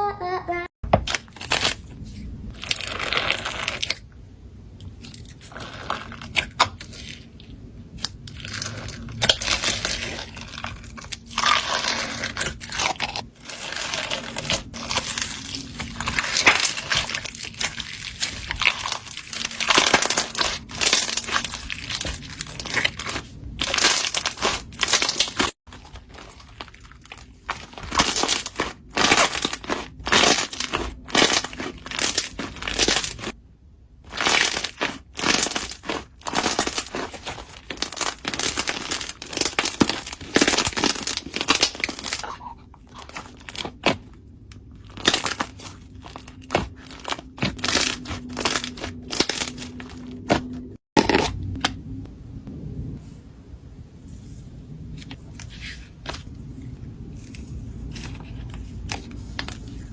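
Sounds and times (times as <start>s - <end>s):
slime crackling and popping: 1.0s - 4.1s, 4.8s - 7.3s, 7.9s - 33.4s, 34.1s - 51.3s.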